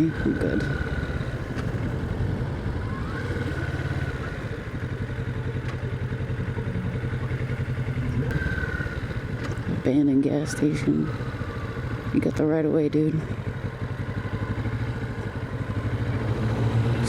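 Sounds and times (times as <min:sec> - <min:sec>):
motorcycle engine at low revs: 0:00.0 - 0:17.0.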